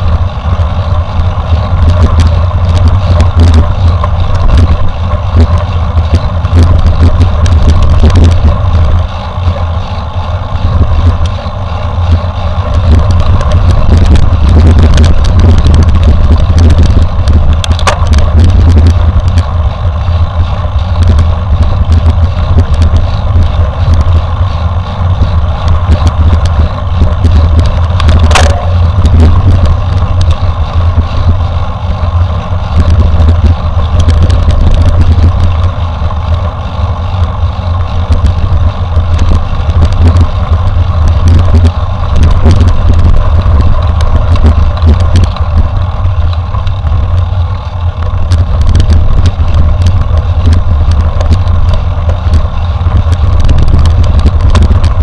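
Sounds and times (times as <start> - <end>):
bike knocks and rattles: 0.0 - 55.0
wind buffeting microphone: 0.0 - 55.0.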